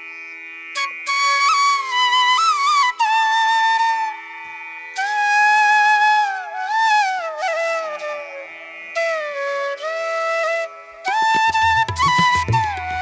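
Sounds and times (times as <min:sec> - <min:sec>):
flute melody: 0:00.8 - 0:04.4, 0:05.0 - 0:13.0.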